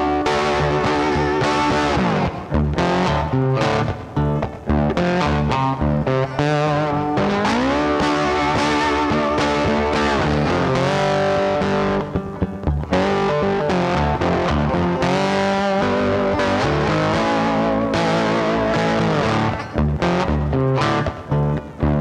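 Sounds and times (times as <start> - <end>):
rock music with distorted guitar: 0.0 - 22.0.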